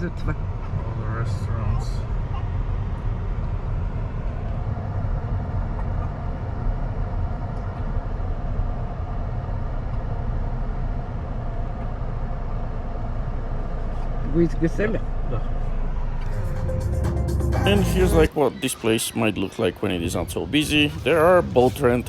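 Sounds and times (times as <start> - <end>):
car driving rumble: 0.0 - 18.3, 19.4 - 22.0.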